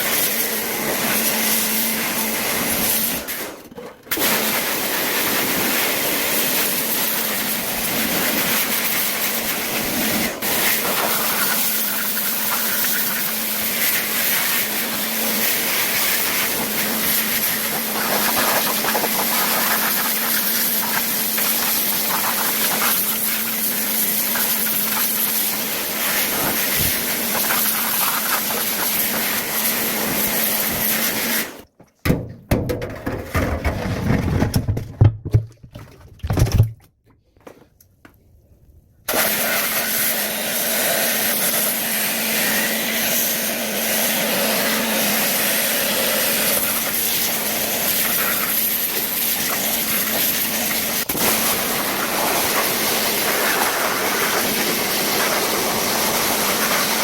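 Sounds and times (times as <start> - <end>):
hissing spray from cleaning machine: 0.0 - 31.6, 39.1 - 57.0.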